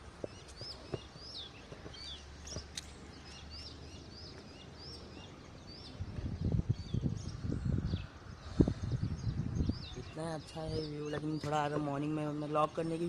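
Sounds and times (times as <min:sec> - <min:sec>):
bird chirping: 0:00.0 - 0:13.0
faint outdoor background: 0:00.0 - 0:13.0.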